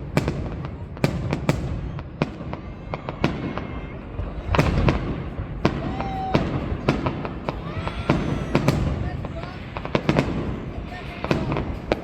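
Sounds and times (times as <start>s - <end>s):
fireworks sharp bangs: 0.0s - 12.0s.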